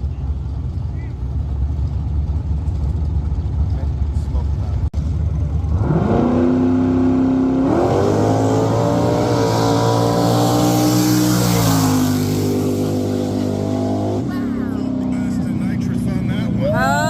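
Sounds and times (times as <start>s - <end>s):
drag racing car accelerating: 0.0s - 16.8s.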